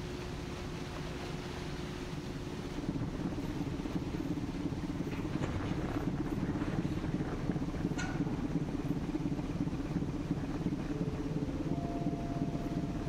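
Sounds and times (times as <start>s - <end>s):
propeller churning water: 0.0s - 13.0s
ship engine running under load: 0.0s - 13.0s.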